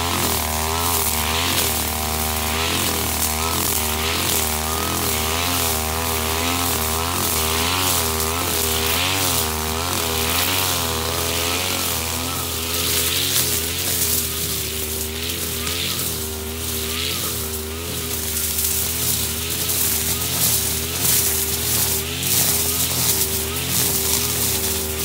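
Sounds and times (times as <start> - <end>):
brush cutter engine revving: 0.0 - 25.0
swish of cutting grass: 0.0 - 25.0.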